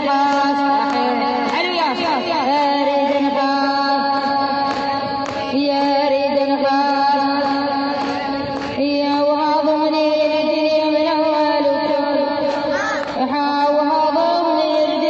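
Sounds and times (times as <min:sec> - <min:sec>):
woman singing a lament: 0:00.0 - 0:15.0.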